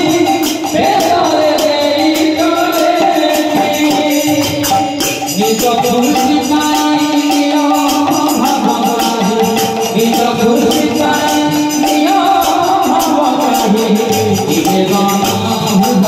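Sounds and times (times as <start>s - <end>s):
jingling percussion: 0.0s - 16.0s
man singing into microphone: 0.0s - 16.0s.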